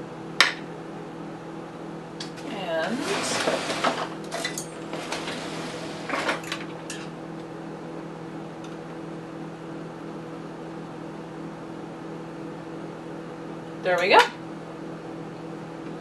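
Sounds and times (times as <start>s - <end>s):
steady appliance hum: 0.0s - 16.0s.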